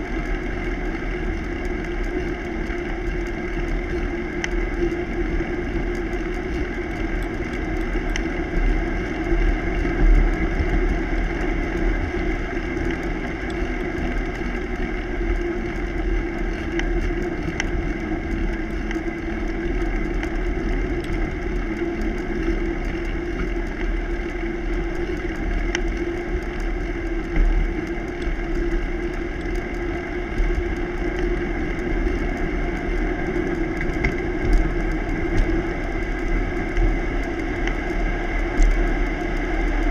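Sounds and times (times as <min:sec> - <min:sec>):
bicycle rolling along road: 0:00.0 - 0:39.9.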